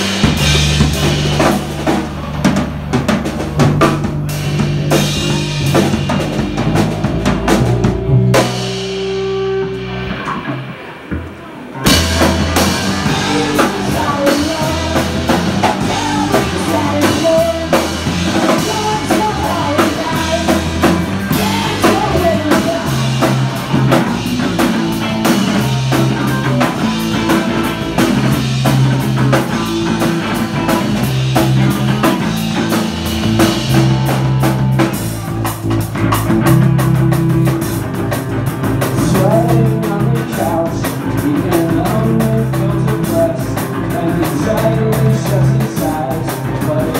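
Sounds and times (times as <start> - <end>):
bass guitar: 0.0 - 46.9
drum kit: 0.0 - 46.9
electric guitar: 0.0 - 46.9.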